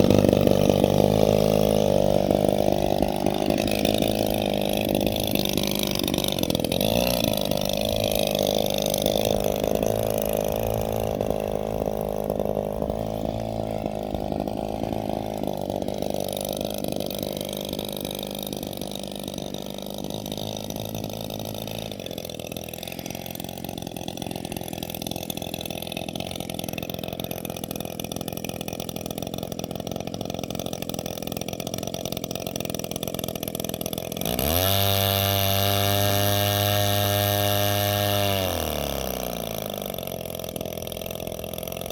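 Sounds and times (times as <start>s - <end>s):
model airplane engine in flight: 0.0s - 14.2s, 20.5s - 41.9s.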